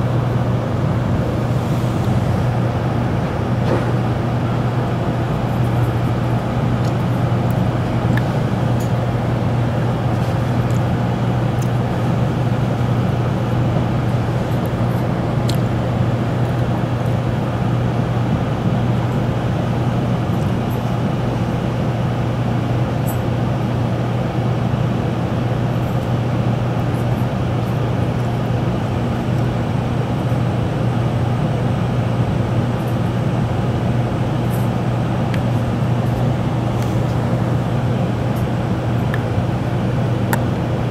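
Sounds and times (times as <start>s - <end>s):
train cabin rumble: 0.0s - 40.9s.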